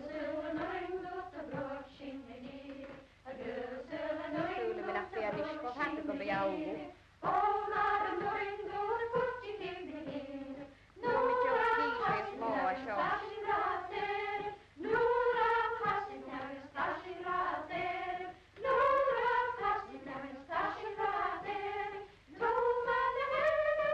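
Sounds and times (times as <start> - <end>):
group of women singing: 0.0 - 23.9.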